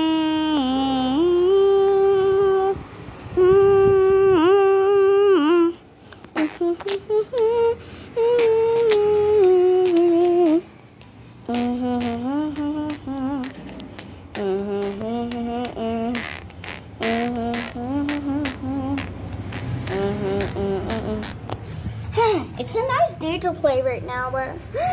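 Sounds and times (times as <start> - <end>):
person humming: 0.0 - 10.7, 11.4 - 21.6.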